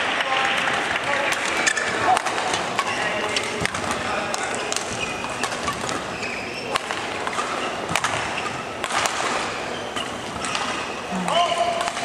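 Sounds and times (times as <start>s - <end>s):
murmur of sports hall: 0.0s - 12.0s
racket hitting shuttlecock: 1.3s - 12.0s.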